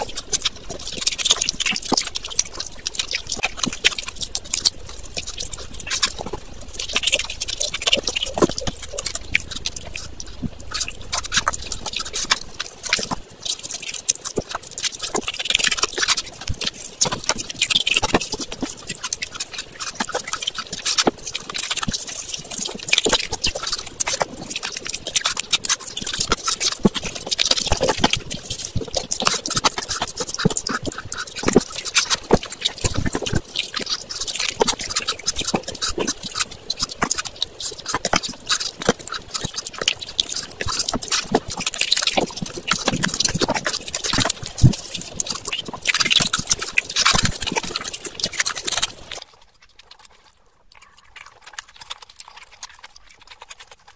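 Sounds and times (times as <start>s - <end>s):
wet chewing and lip smacking: 0.0s - 53.9s.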